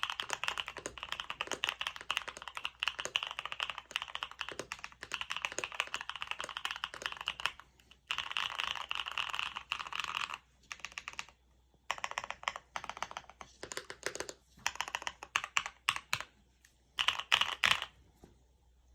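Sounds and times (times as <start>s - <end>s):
mechanical keyboard typing: 0.0s - 16.3s, 17.0s - 17.9s.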